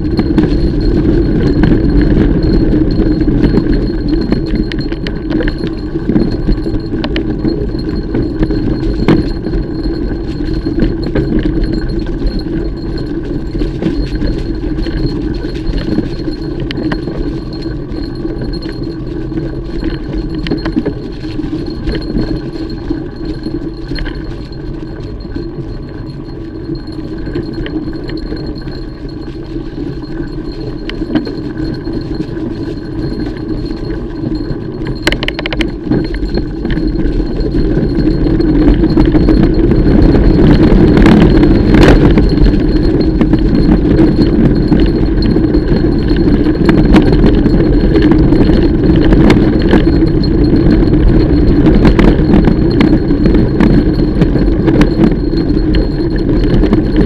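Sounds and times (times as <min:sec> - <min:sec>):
bike tyres rumbling: 0:00.0 - 0:57.0
chain and frame rattling: 0:00.0 - 0:57.0.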